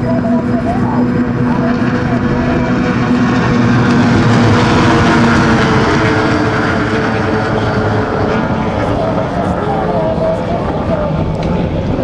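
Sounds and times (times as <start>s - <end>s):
racing outboard motors droning: 0.0s - 12.0s.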